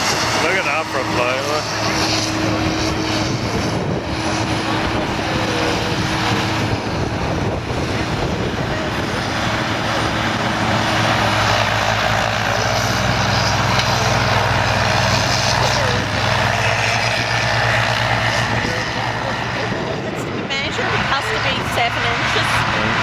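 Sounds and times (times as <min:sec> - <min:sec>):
diesel tractor engines droning: 0:00.0 - 0:23.0.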